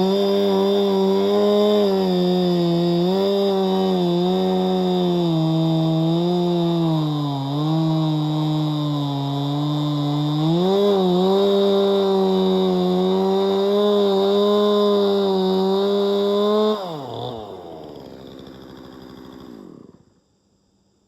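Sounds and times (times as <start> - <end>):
chainsaw engine at high revs: 0.0 - 20.2.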